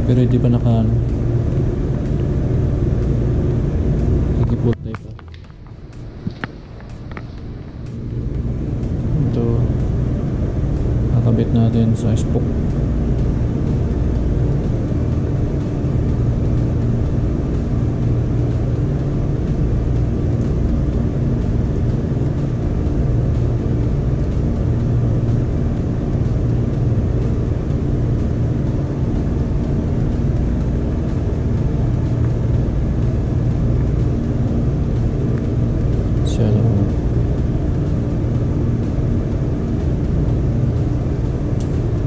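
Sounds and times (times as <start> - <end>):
low mechanical hum: 0.0 - 42.0.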